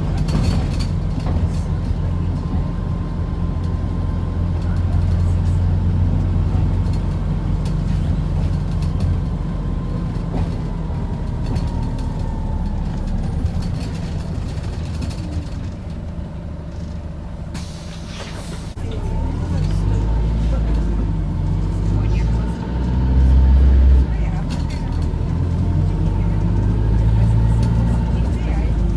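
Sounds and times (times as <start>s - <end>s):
bus engine hum: 0.0s - 28.9s.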